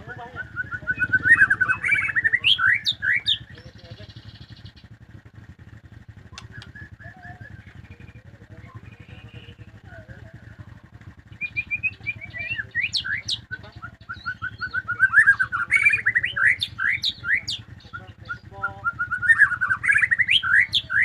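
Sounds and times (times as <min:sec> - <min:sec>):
bird singing chirps and whistles: 0:00.0 - 0:04.9, 0:06.3 - 0:09.7, 0:11.3 - 0:21.0.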